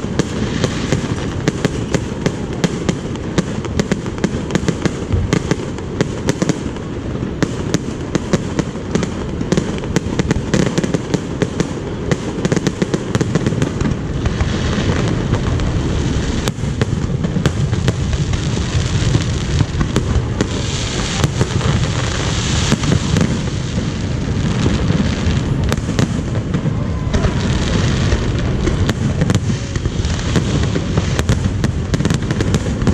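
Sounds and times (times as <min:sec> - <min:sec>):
fireworks cracking and crackling: 0:00.0 - 0:32.9.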